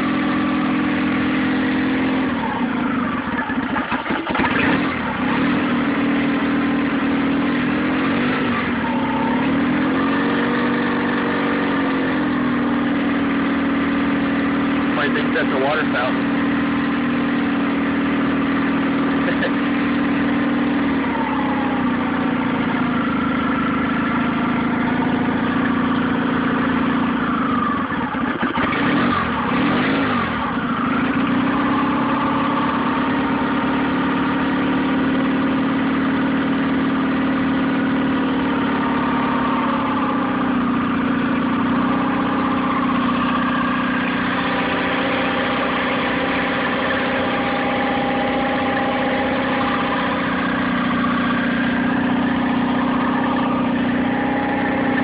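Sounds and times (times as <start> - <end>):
outboard motor idling roughly: 0.0 - 55.0.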